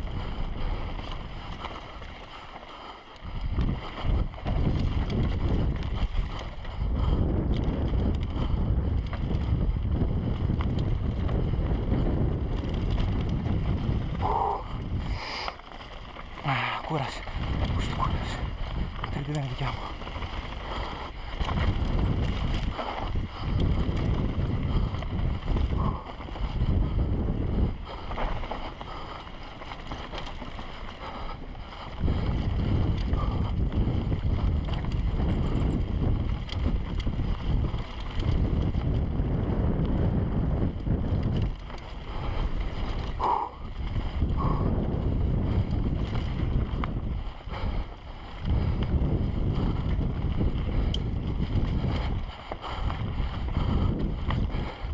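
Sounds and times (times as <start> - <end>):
bike clattering over bumps: 0.0 - 54.9
wind buffeting microphone: 0.0 - 54.9
tyres rumbling on dirt: 3.5 - 54.9.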